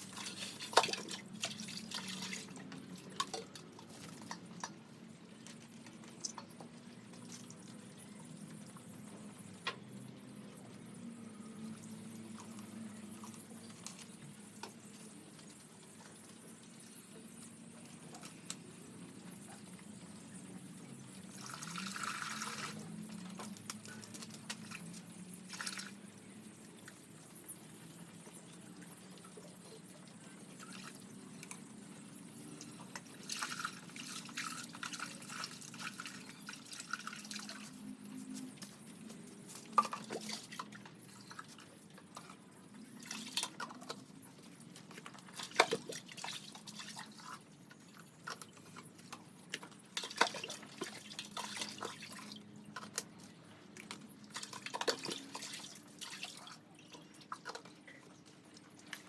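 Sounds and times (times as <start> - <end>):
water pouring and dripping: 0.0 - 59.0.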